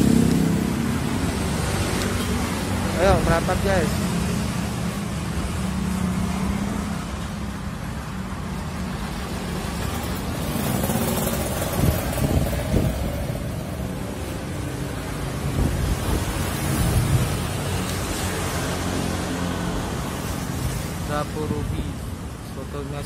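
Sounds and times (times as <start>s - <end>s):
cars and motorbikes passing: 0.0s - 23.0s.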